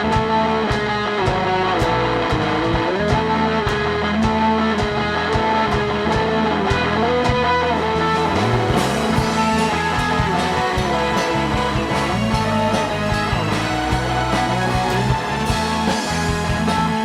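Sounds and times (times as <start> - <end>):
electric guitar: 0.0 - 17.0
rock band playing: 0.0 - 17.0.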